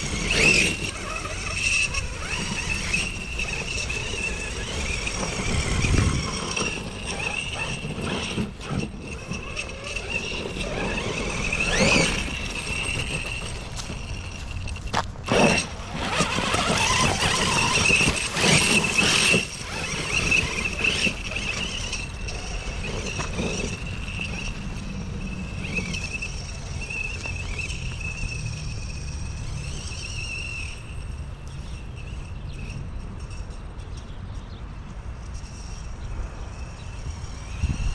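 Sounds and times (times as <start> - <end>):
rc truck motor whining: 0.0 - 37.9.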